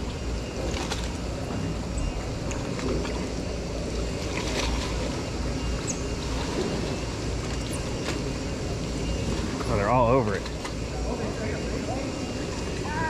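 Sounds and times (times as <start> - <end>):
waves lapping: 0.0 - 13.0.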